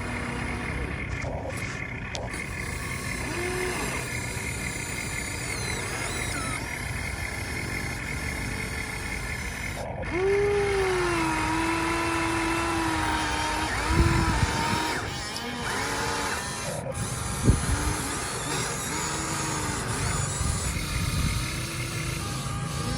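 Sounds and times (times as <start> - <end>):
loud high whine: 0.0 - 22.9
model excavator mechanical whine: 0.0 - 22.9.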